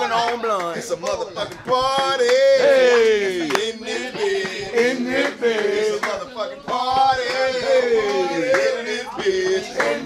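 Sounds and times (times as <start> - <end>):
men singing a chant: 0.0 - 10.0.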